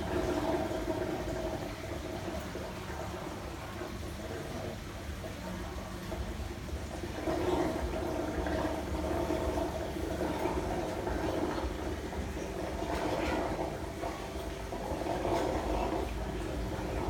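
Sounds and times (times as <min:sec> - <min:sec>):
aquarium air stone bubbling: 0:00.0 - 0:17.0
low pump hum: 0:00.0 - 0:17.0.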